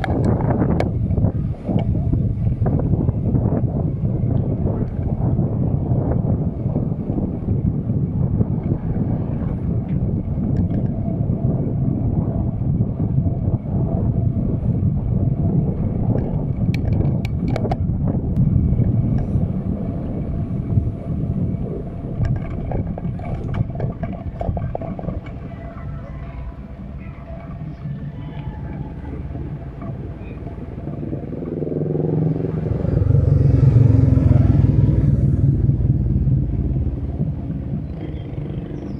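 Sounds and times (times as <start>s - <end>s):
bicycle road noise: 0.0s - 38.9s
wind on microphone: 0.0s - 38.9s.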